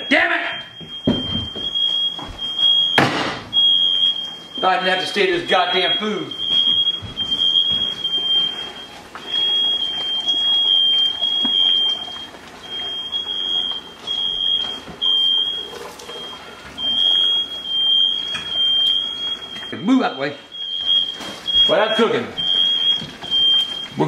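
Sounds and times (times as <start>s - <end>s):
smoke alarm beeping: 0.0s - 24.0s.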